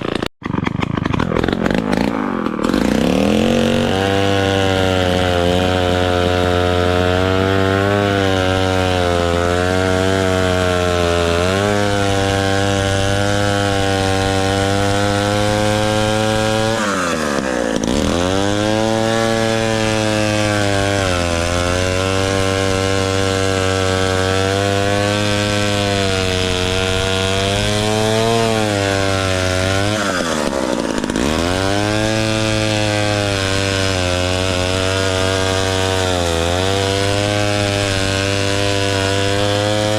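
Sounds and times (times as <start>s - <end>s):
chainsaw engine at high revs: 0.0s - 39.9s.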